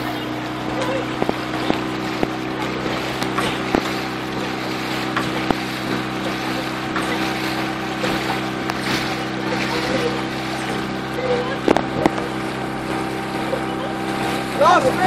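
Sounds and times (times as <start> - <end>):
outboard motor running: 0.0 - 15.0
water rushing: 0.0 - 15.0.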